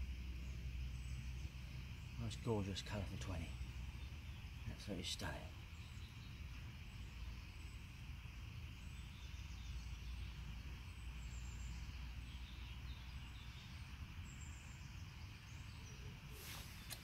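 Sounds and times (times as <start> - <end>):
faint bird chirps: 0.0 - 17.0
steady low rumble: 0.0 - 17.0.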